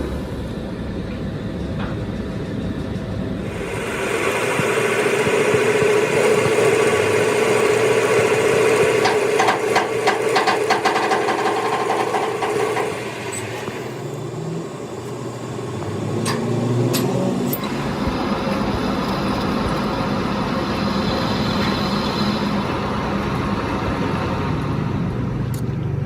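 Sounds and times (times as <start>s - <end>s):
metal lathe whining: 3.1s - 25.3s.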